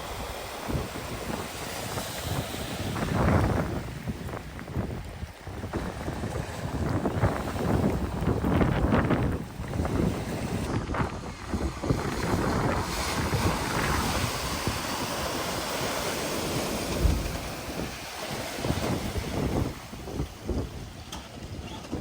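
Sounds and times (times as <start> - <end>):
water rushing and splashing: 0.0 - 22.0
wind buffeting microphone: 0.0 - 22.0.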